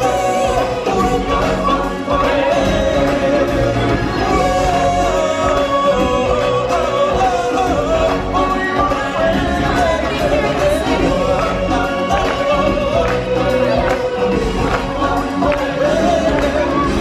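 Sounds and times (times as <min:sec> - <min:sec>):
amplified musical backing: 0:00.0 - 0:17.0
choral voices: 0:00.0 - 0:17.0.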